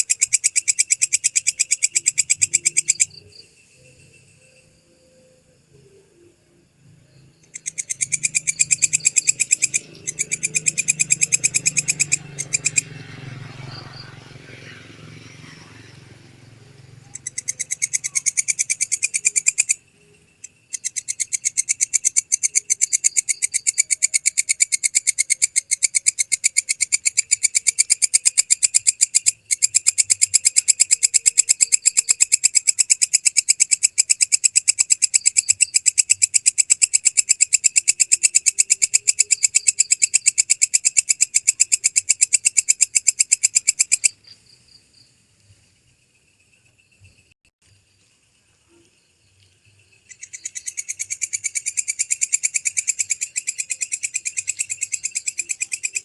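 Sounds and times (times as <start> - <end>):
insect high-pitched clicking: 0.0 - 6.4, 7.1 - 45.6, 46.2 - 56.0.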